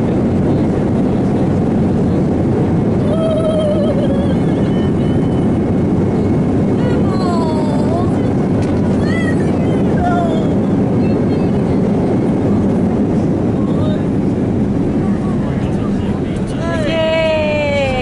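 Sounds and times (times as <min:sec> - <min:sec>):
people talking: 0:00.0 - 0:05.6, 0:06.7 - 0:18.0
airliner cabin engine noise: 0:00.0 - 0:18.0.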